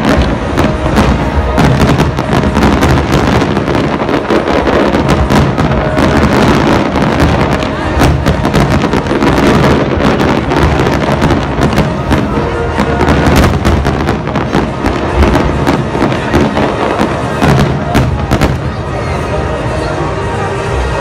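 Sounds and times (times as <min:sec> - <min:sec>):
continuous rumble: 0:00.0 - 0:21.0
music playing: 0:00.0 - 0:21.0.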